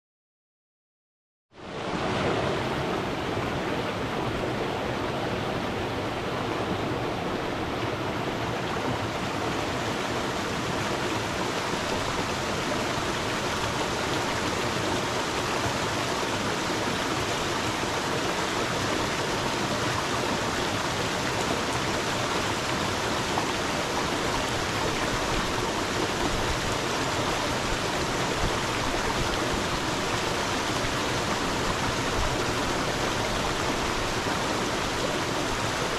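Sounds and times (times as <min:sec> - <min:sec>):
stream of water flowing: 0:01.6 - 0:35.9.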